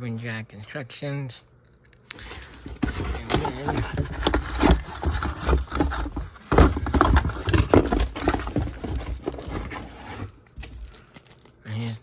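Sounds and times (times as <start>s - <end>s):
cardboard box being rummaged: 2.3s - 11.9s.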